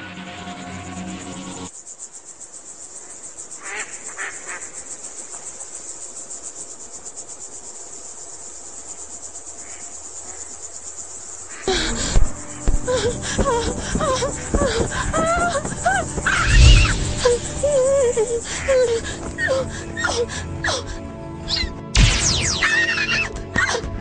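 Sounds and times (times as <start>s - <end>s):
crickets chirring: 0.1s - 24.0s.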